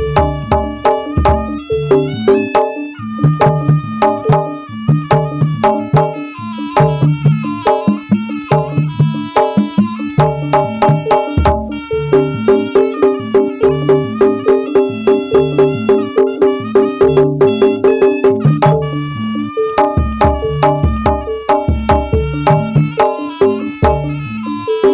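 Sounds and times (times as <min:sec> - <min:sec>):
percussion ensemble playing: 0:00.0 - 0:24.9.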